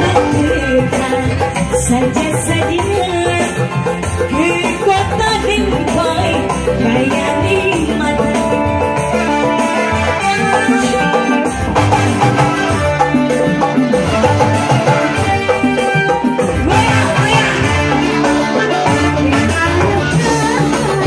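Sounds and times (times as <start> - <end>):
hand drums: 0.0 - 21.0
live band playing loudly: 0.0 - 21.0
woman singing into microphone: 0.0 - 21.0.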